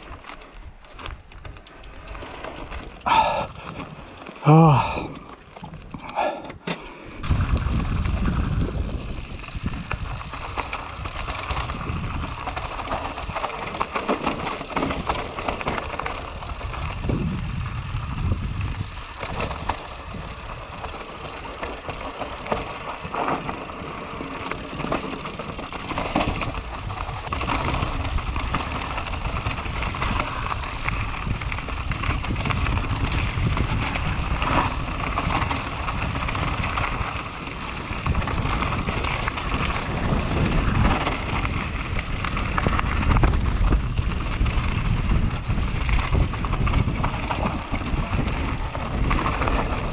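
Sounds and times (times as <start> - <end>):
bike rattles and knocks: 0.0 - 49.9
bike tyre noise: 0.0 - 49.9
wind rumble on microphone: 7.1 - 23.6, 24.5 - 49.9.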